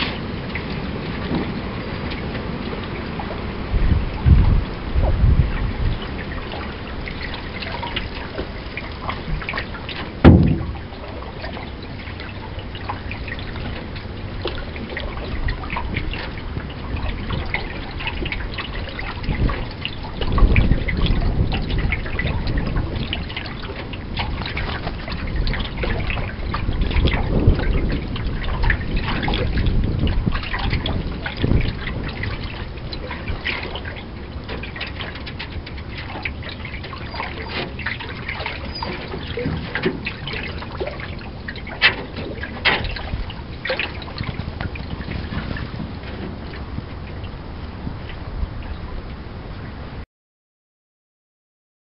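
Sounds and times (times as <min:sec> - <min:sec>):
water slaps: 0:00.0 - 0:46.9
water lapping against canoe hull: 0:00.0 - 0:50.0
wind rumbling on microphone: 0:00.0 - 0:50.0.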